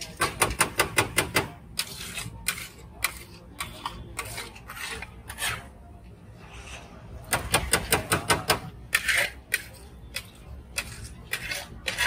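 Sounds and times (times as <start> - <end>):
metal spatula striking griddle: 0.0 - 5.6, 7.2 - 12.0.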